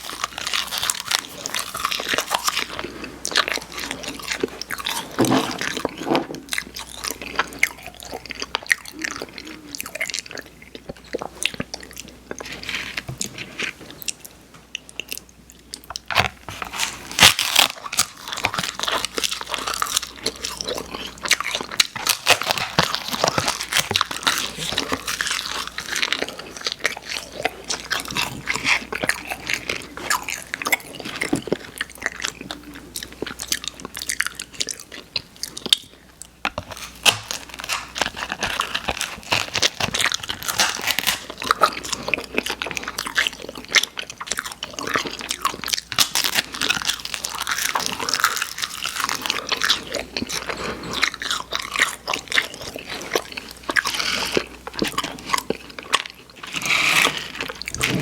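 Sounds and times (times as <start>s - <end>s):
crunchy chewing of candy: 0.0s - 58.0s.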